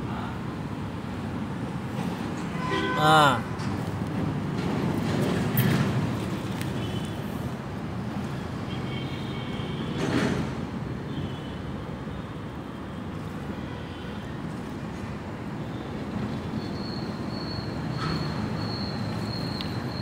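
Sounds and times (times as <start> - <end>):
traffic rumble on bridge: 0.0 - 20.0.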